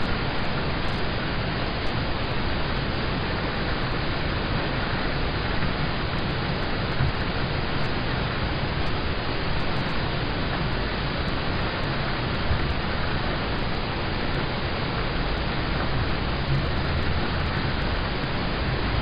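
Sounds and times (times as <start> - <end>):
rain on a car roof: 0.0 - 19.0.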